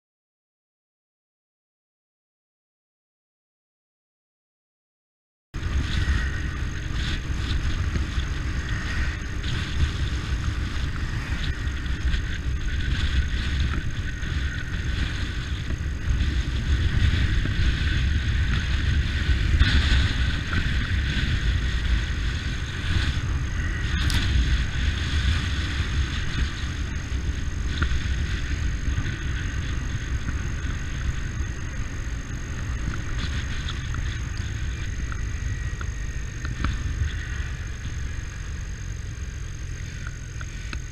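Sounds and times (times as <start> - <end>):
road noise: 5.6 - 40.9
vehicle engine rumbling: 5.6 - 40.9.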